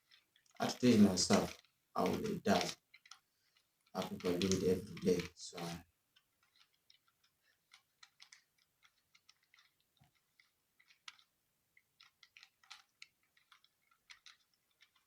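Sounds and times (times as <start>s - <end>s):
puzzle cube plastic clicking: 0.0s - 15.0s.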